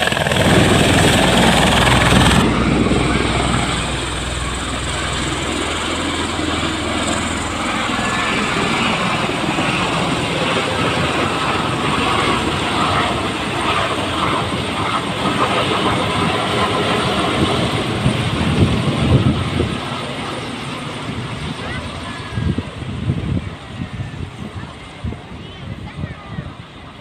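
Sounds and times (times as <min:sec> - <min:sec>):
tiltrotor aircraft droning overhead: 0:00.0 - 0:27.0.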